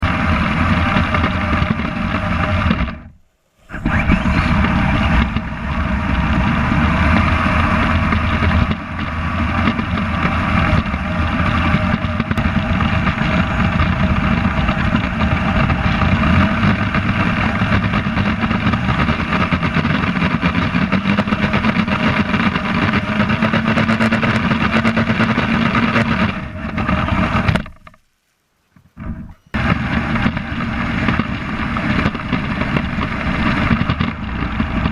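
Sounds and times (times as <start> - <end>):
toy vehicle motor and tracks running: 0.1 - 27.8, 29.0 - 34.9.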